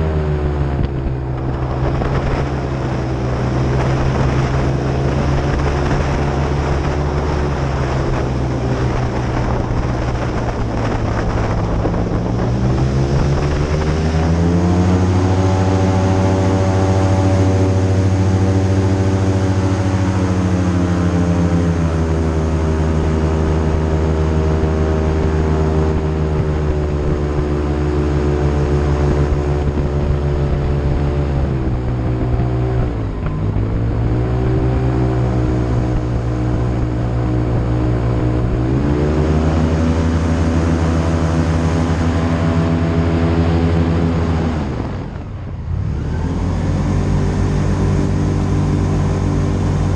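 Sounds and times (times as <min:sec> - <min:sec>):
airboat engine and propeller: 0:00.0 - 0:49.9.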